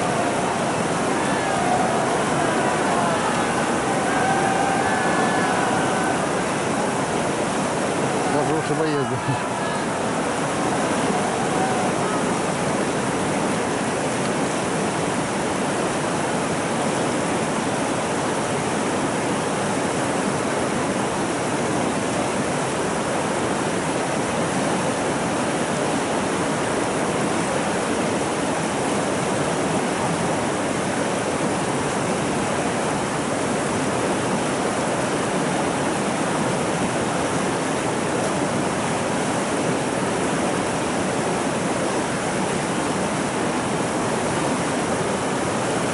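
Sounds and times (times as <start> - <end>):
river water rushing over boulders: 0.0 - 45.9.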